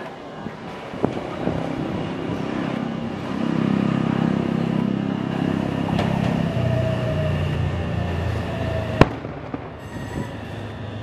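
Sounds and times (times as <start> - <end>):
electric train motors humming: 0.0 - 11.0
falling brake whine: 1.0 - 11.0.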